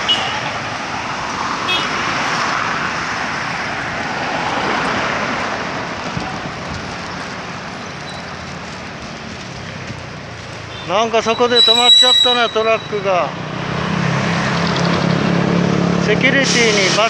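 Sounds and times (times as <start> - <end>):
vehicle passing close by: 0.0 - 10.7, 13.3 - 16.3
cars passing: 0.0 - 17.0.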